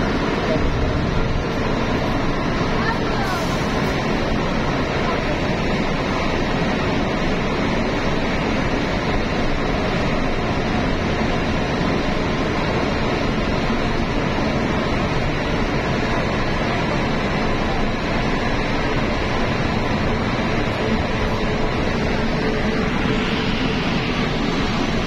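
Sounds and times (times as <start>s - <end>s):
vehicle road noise: 0.0s - 25.0s.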